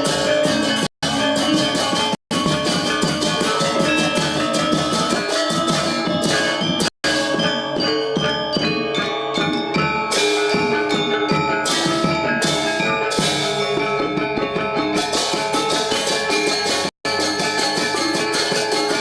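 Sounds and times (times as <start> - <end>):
gamelan gong ensemble playing: 0.0 - 19.0.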